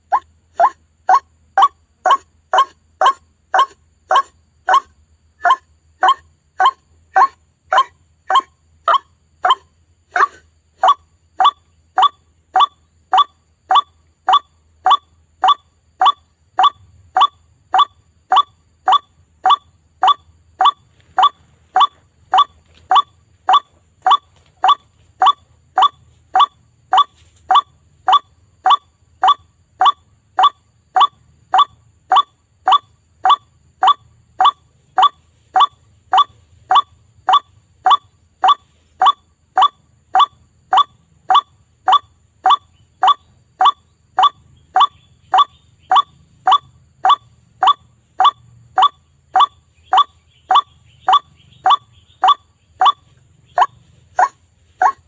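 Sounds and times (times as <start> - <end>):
bird call: 10.2 - 55.0.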